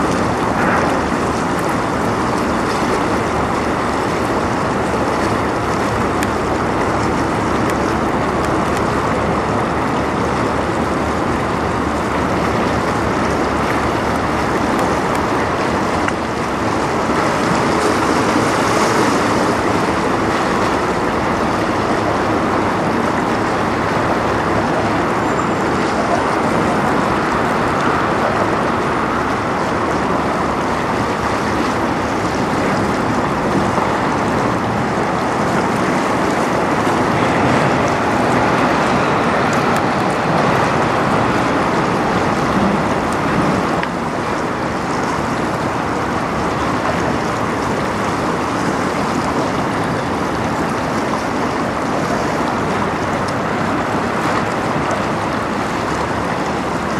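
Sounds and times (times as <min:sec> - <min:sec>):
fast river water rushing: 0:00.0 - 0:56.9.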